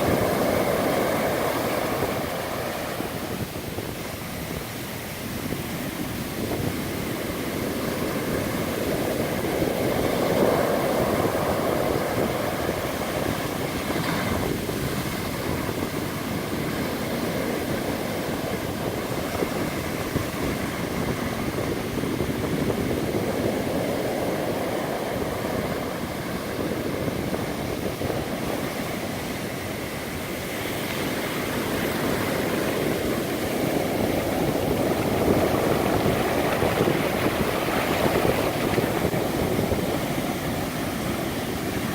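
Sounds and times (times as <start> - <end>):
ocean waves rushing: 0.0 - 41.9.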